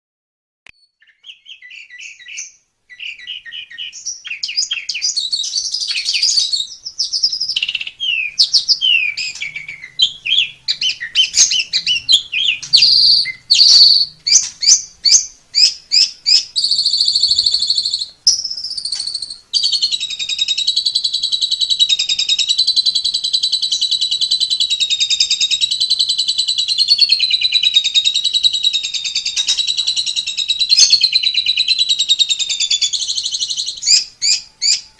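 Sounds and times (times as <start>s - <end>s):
starling singing whistles and chatter: 0.8s - 34.9s.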